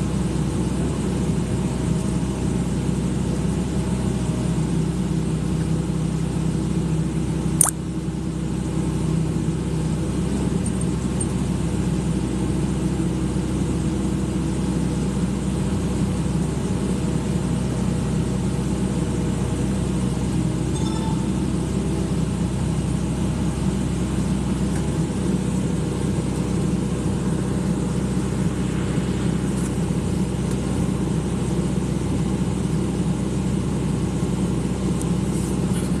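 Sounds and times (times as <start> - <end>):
excavator diesel engine droning: 0.0 - 36.0.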